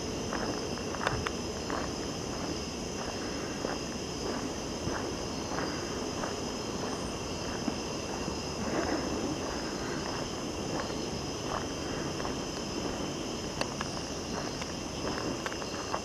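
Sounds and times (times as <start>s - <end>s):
crickets chirping: 0.0s - 16.0s
footsteps on dirt track: 0.0s - 16.0s.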